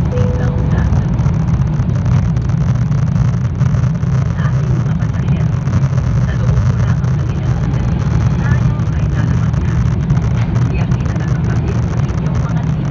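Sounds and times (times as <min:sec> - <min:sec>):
airliner cabin engine rumble: 0:00.0 - 0:12.9.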